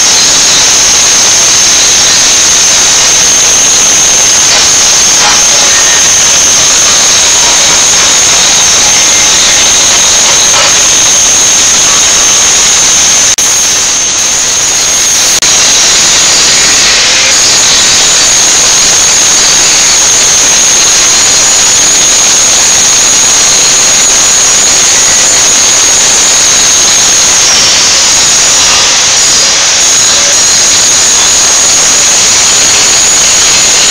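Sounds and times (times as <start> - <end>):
angle grinder grinding metal: 0.0 - 33.9.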